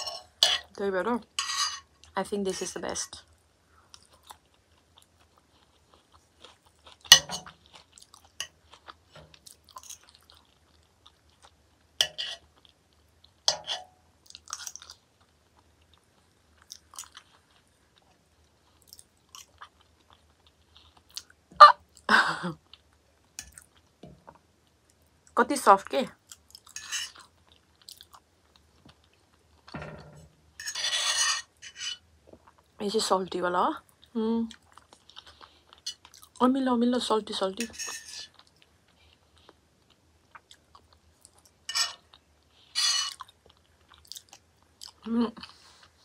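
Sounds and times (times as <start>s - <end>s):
soft chewing: 3.2s - 13.5s, 14.2s - 25.4s, 26.2s - 29.8s, 30.7s - 32.8s, 33.8s - 36.4s, 38.0s - 46.0s.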